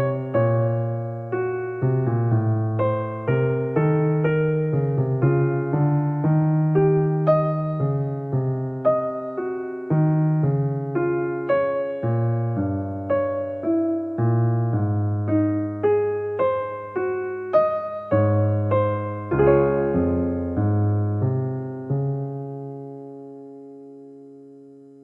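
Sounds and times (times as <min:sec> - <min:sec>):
gentle electric piano music: 0:00.0 - 0:25.0.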